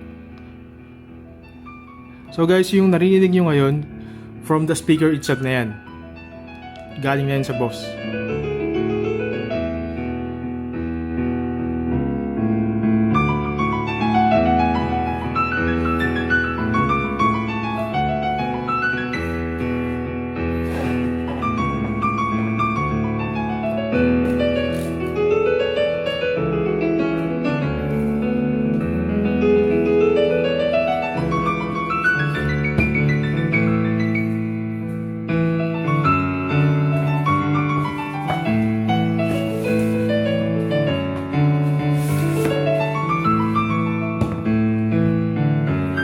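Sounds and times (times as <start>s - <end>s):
piano music through a speaker: 0.0s - 46.0s.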